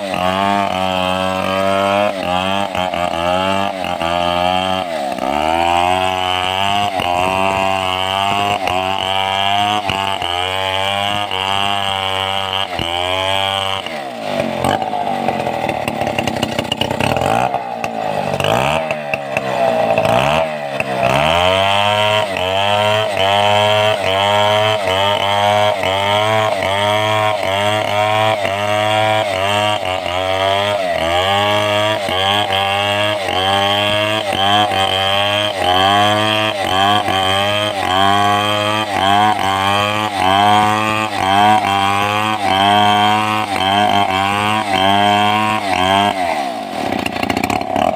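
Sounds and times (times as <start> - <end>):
chainsaw cutting: 0.0 - 47.9.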